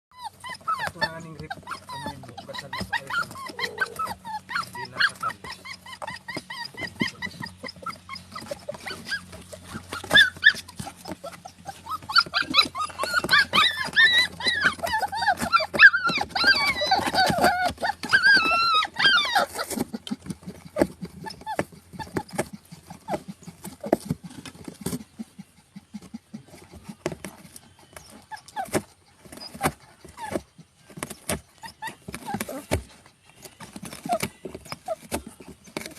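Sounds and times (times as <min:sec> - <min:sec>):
dog crying: 0:00.1 - 0:26.7, 0:27.8 - 0:32.8.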